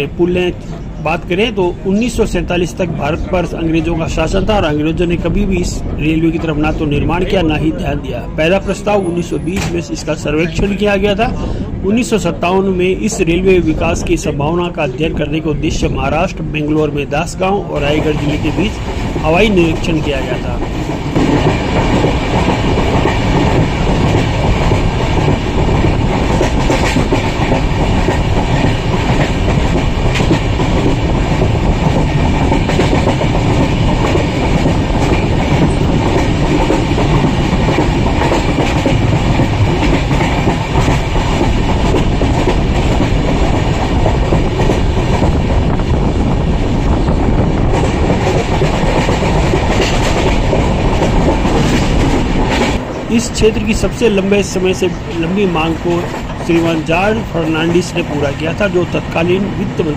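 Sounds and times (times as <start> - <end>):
train wheels rumbling on rails: 0.0 - 59.9
wheels clickety-clack over rail joints: 0.0 - 59.9.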